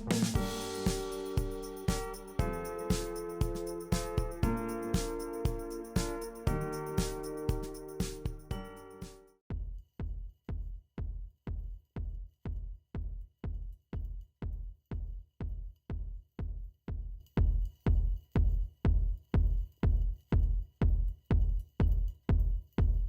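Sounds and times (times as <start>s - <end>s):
electronic music with kick beat: 0.0s - 23.0s.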